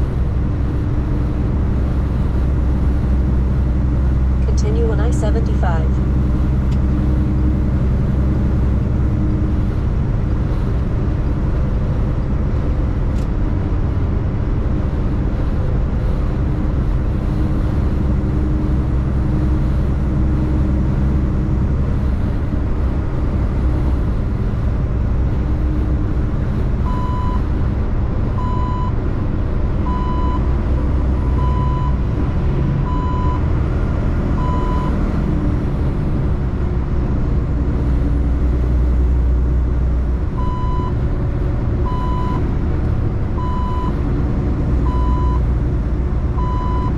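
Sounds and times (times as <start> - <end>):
diesel truck engine running: 0.0 - 46.9.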